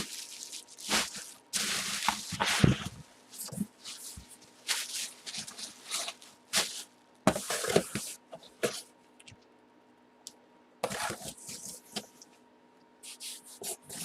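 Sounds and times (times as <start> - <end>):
rustling and handling noise: 0.0 - 9.4, 10.8 - 12.4, 13.0 - 14.0.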